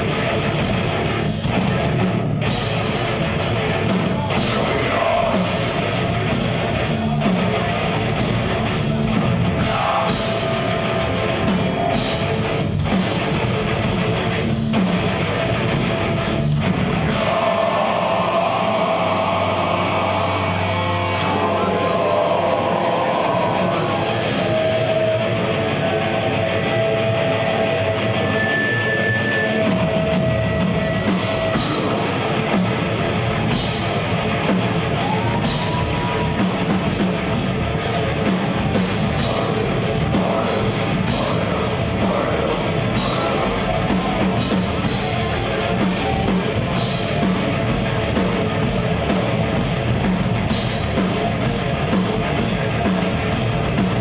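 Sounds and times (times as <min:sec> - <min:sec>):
death metal band playing live: 0:00.0 - 0:54.0.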